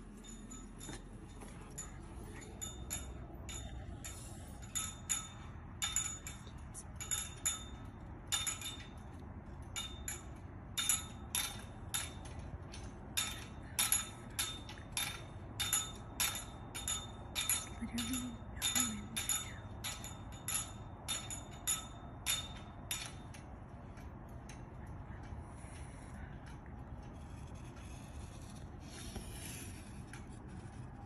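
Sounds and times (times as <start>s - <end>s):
metallic clinks and jingles: 0.0s - 27.8s
low background hum: 0.0s - 31.0s.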